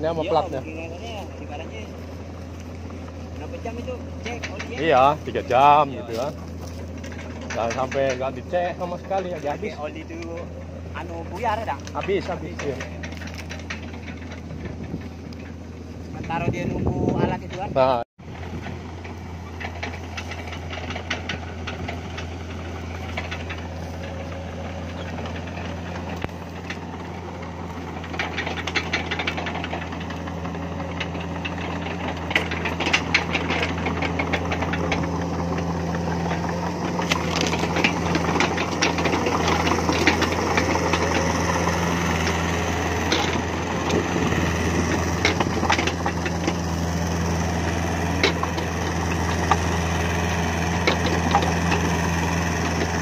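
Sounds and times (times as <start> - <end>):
excavator diesel engine running: 0.0 - 53.0
track clatter: 0.0 - 53.0
brush and branches cracking: 0.5 - 8.1, 8.7 - 14.4, 18.8 - 53.0.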